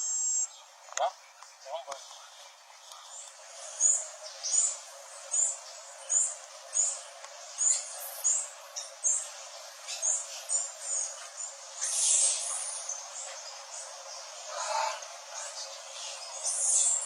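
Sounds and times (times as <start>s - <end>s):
songbird high chirping: 0.0s - 17.0s.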